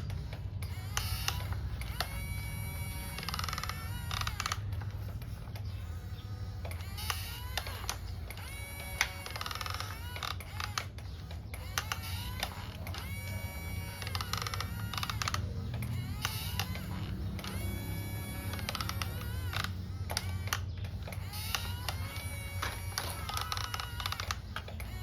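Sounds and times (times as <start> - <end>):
low steady hum: 0.0 - 25.0
small gears clicking and ratcheting: 0.0 - 25.0.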